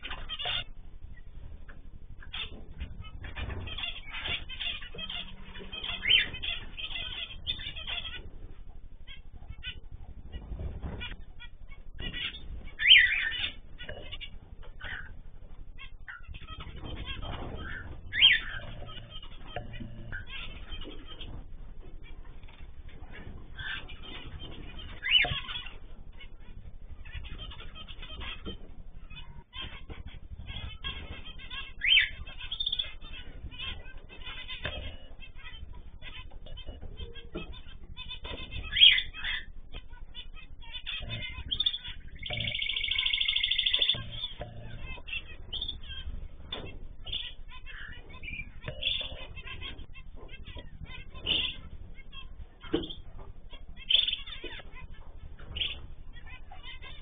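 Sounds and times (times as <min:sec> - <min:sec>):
loud sweeping bird calls: 0:00.0 - 0:57.0
small birds chirping: 0:00.0 - 0:57.0.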